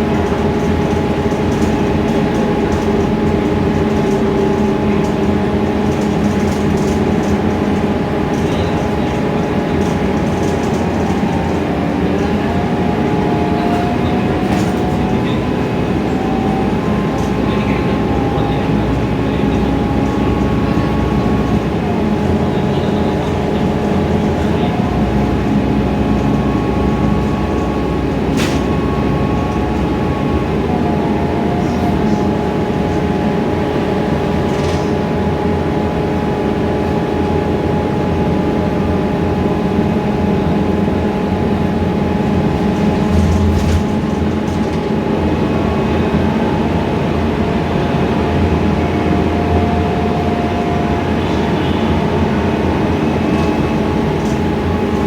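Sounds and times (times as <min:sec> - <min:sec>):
bus engine drone: 0:00.0 - 0:55.0
road rumble: 0:00.0 - 0:55.0.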